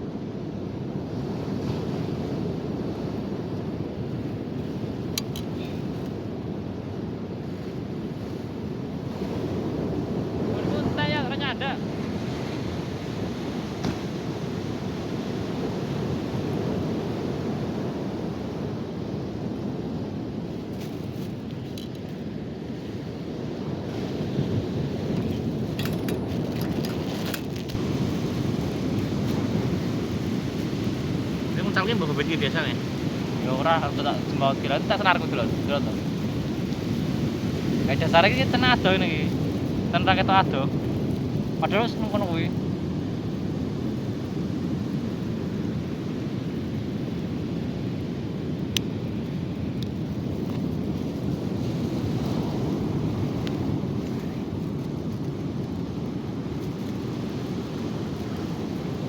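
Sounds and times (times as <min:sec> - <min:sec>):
ocean surf rumbling: 0:00.0 - 0:59.0
wind on microphone: 0:00.0 - 0:59.0.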